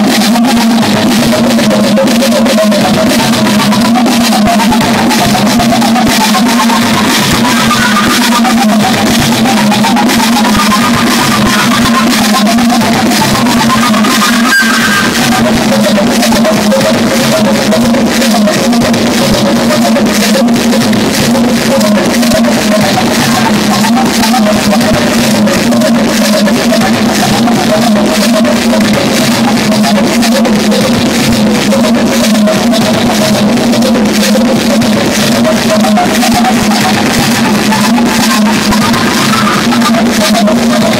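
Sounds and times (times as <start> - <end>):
fast electronic drum beat: 0.0 - 40.9
low synthesizer drone: 0.0 - 40.9.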